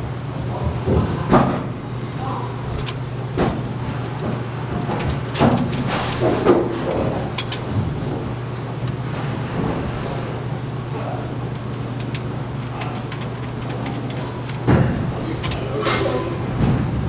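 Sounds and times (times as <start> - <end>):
low machine hum: 0.0 - 17.0
machine parts knocking and clanking: 2.6 - 17.0.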